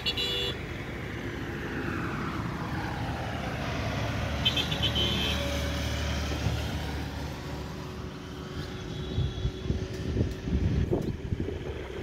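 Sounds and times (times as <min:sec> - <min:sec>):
vehicle passing by: 0:00.6 - 0:12.0.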